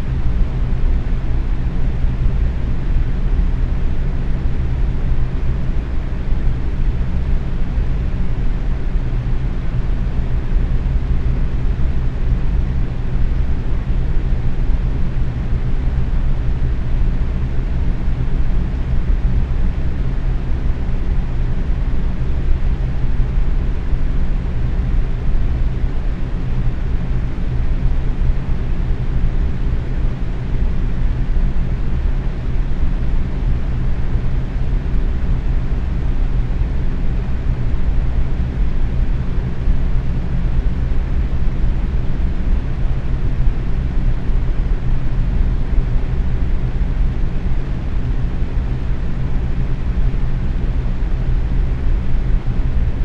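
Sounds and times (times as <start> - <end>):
box fan running: 0.0 - 53.0.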